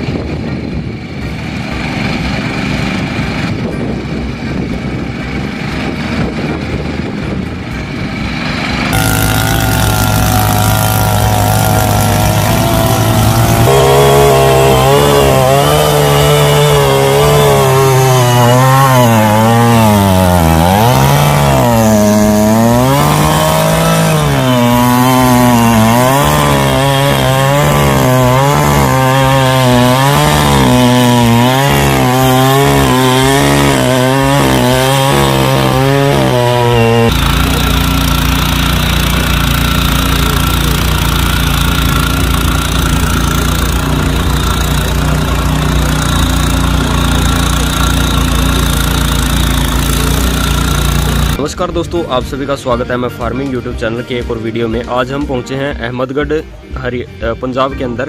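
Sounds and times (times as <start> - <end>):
two-stroke mini tiller engine buzz: 0.0 - 51.5
power tiller engine running: 0.0 - 51.7.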